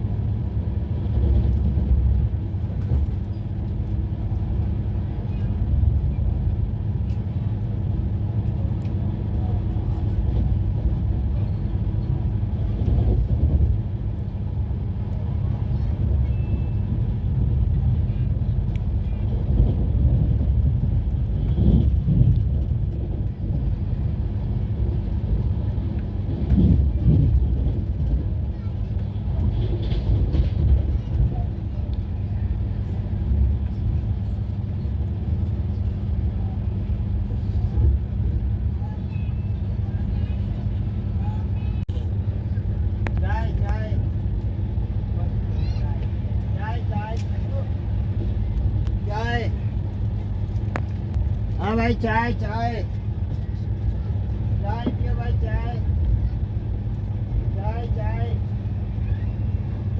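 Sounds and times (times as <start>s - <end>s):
moving train rumble: 0.0s - 59.9s.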